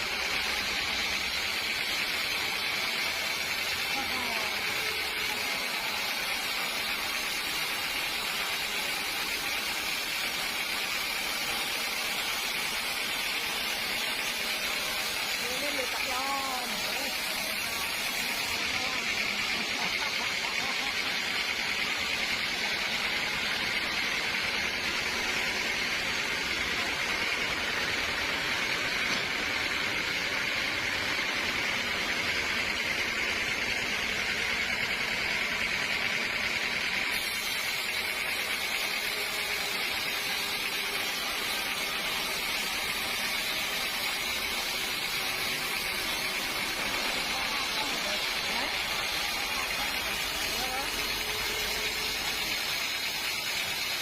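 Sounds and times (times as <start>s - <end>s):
sawmill machinery whirring: 0.0s - 54.0s.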